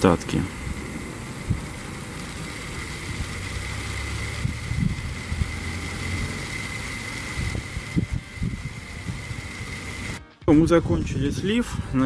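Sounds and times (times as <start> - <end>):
faint high whine: 0.0 - 10.2
motor humming: 0.0 - 10.2.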